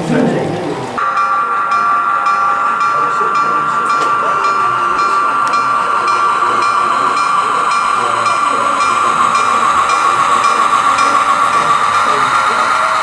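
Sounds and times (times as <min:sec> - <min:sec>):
faint regular ticking: 0:00.0 - 0:13.0
model train whining: 0:00.0 - 0:13.0.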